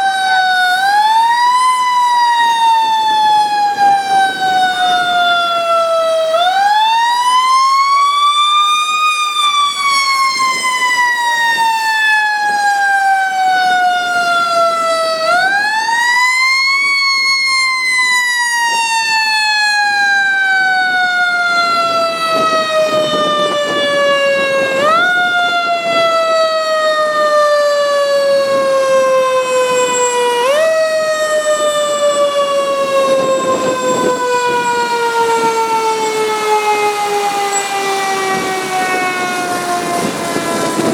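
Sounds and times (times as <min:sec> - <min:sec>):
fire truck siren wailing: 0:00.0 - 0:40.9.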